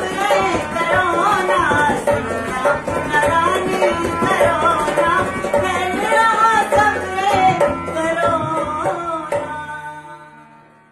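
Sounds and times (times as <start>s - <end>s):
dholak drum: 0.0s - 10.6s
harmonium: 0.0s - 10.9s.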